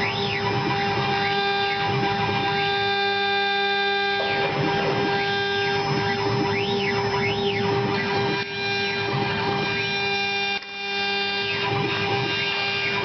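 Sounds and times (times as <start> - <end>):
spindle humming: 0.0 - 13.0
stepper motors whining: 0.0 - 13.0.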